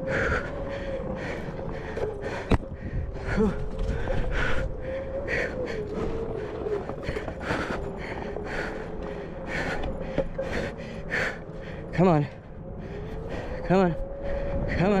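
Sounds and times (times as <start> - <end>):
tyre rolling on trail: 0.0 - 14.0
person breathing hard: 0.0 - 15.0
wind rumble: 0.0 - 15.0.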